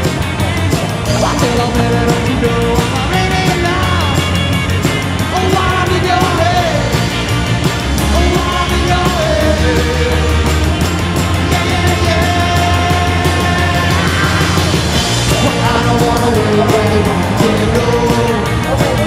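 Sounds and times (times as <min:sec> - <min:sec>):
loud rock song: 0:00.0 - 0:19.0
steady drum beat: 0:00.0 - 0:19.0
person singing: 0:01.1 - 0:04.4, 0:05.2 - 0:07.1, 0:08.0 - 0:10.7, 0:11.4 - 0:19.0.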